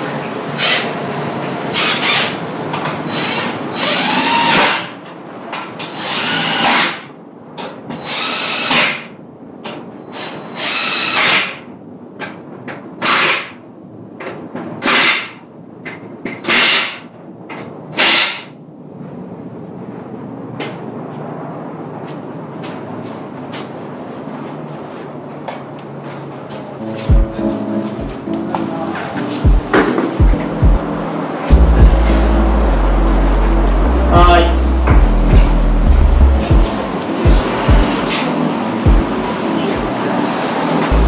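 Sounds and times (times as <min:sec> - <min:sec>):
workshop background noise: 0:00.0 - 0:18.6, 0:20.5 - 0:41.0.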